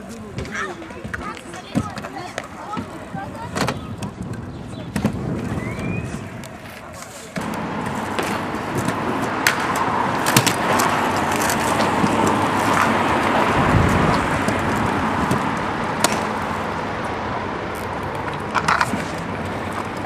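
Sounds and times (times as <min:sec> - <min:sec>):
scooter wheels rolling over pavement: 0:00.0 - 0:20.0.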